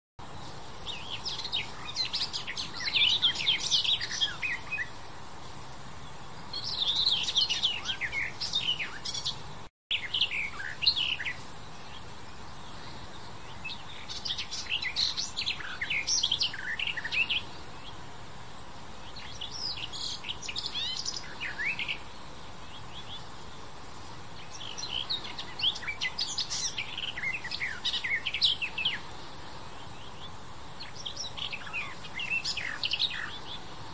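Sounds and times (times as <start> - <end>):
warbler singing: 0.2 - 33.9.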